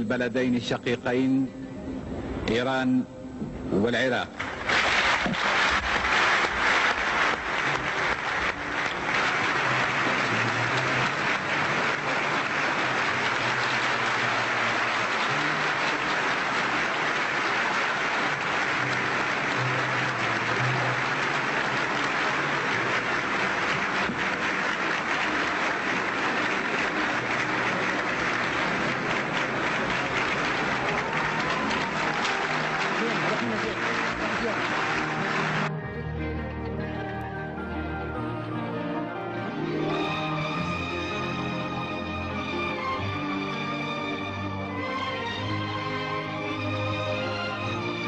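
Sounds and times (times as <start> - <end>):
large audience applauding: 4.0 - 35.9, 39.7 - 48.0.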